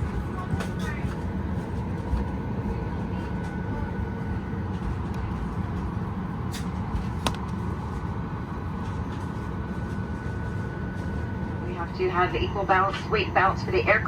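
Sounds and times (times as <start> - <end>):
cabin ventilation hum: 0.0 - 14.0.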